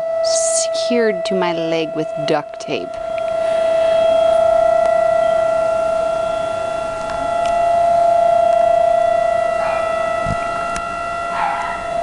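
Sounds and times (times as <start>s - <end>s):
warning siren steady tone: 0.0s - 12.0s.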